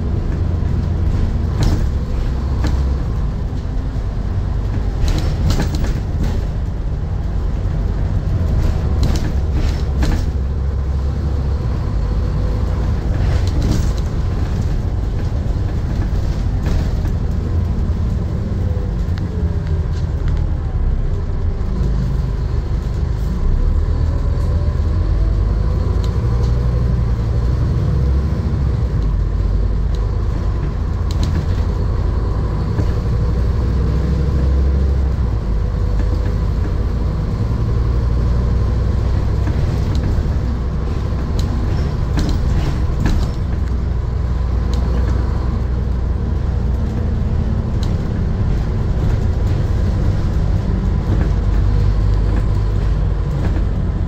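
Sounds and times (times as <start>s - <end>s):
bus diesel engine rumble: 0.0s - 54.0s
road noise: 0.0s - 54.0s.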